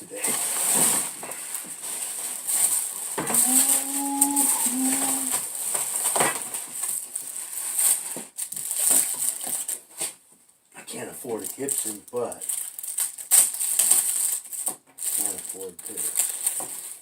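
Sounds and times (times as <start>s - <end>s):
packaging rustling and crinkling: 0.1s - 10.2s, 11.2s - 17.0s.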